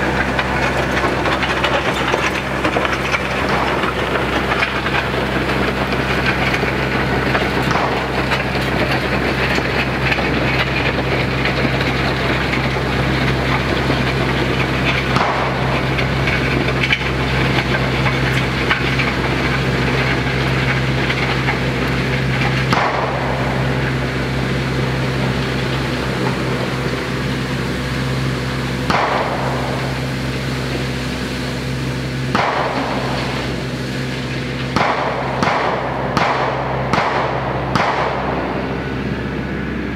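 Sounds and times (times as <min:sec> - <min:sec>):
land plane scraping over gravel: 0:00.0 - 0:35.4
tractor diesel engine running: 0:00.0 - 0:39.9.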